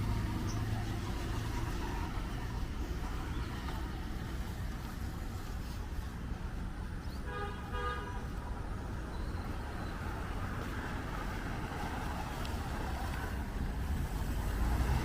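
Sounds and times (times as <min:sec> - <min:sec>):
vehicle approaching: 0:00.0 - 0:06.9, 0:08.4 - 0:15.0
low rumble of road traffic: 0:00.0 - 0:15.0.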